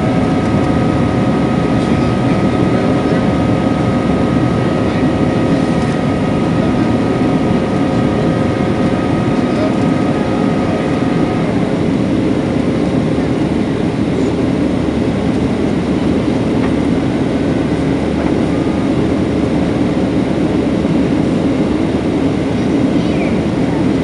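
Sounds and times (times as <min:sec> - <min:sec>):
jet engines at climb power: 0:00.0 - 0:24.0
steady whining tones: 0:00.0 - 0:24.0.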